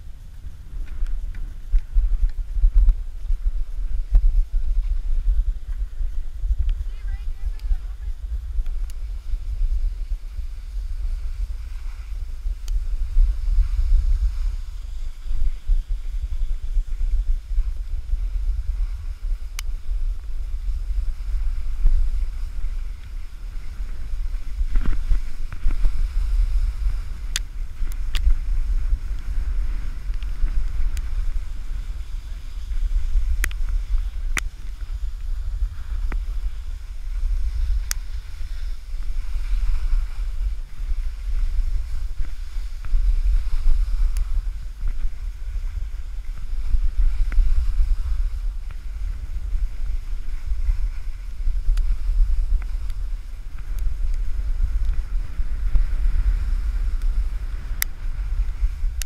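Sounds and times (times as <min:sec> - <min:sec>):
skis hissing over snow: 0:00.0 - 0:59.0
wind buffeting microphone: 0:00.0 - 0:59.0.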